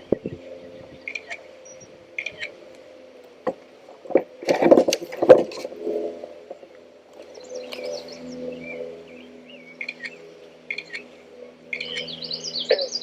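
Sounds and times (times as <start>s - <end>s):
birds chirping: 0.0s - 4.4s, 6.3s - 13.0s
steady low hum: 0.0s - 13.0s.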